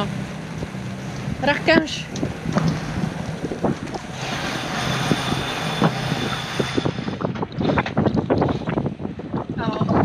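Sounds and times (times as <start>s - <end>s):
waves slapping a hull: 0.0s - 10.0s
wind buffeting microphone: 0.0s - 10.0s.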